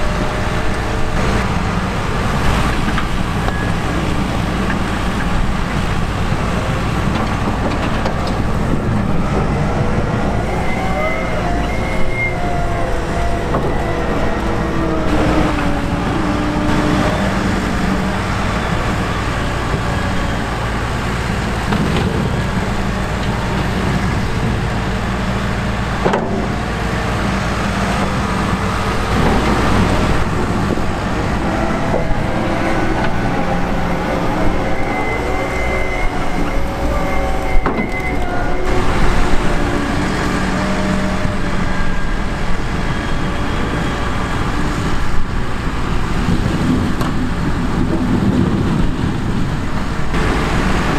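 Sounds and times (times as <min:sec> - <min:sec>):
heavy diesel machinery running: 0:00.0 - 0:50.9
machinery whines: 0:00.0 - 0:50.9.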